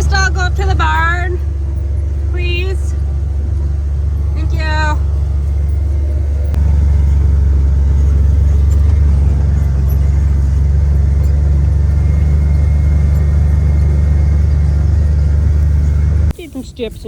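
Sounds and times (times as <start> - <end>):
vehicle engine droning: 0.0 - 16.9.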